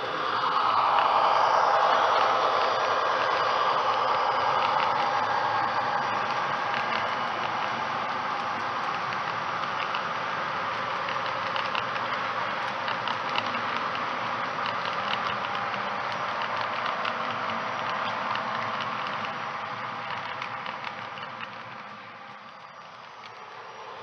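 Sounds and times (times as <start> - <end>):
model train motor whir: 0.0 - 24.0
light ticking: 0.7 - 23.4.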